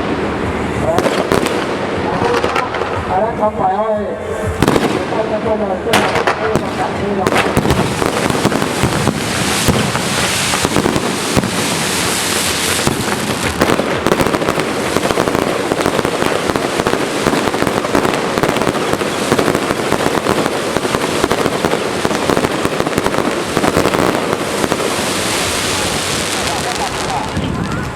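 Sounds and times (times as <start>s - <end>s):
fireworks crackling: 0.0s - 27.9s.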